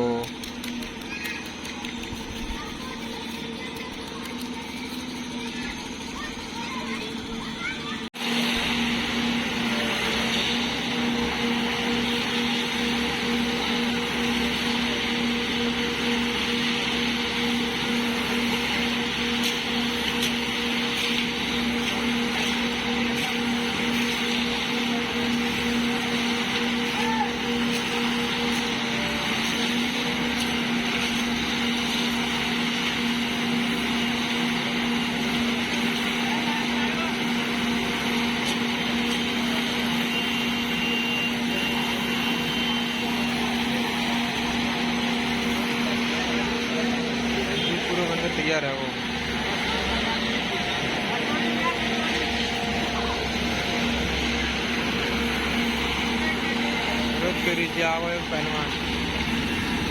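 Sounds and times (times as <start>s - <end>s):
construction machine engine humming: 0.0s - 59.9s.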